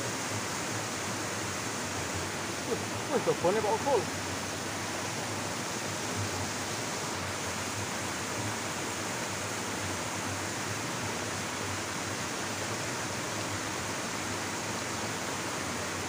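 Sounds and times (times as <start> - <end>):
water rushing into a stream: 0.0 - 16.0.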